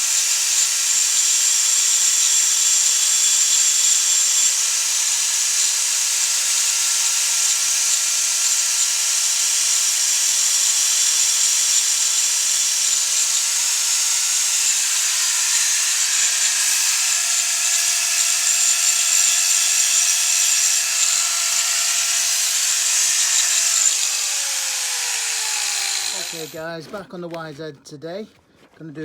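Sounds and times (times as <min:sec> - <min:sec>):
power tool whining: 0:00.2 - 0:26.6.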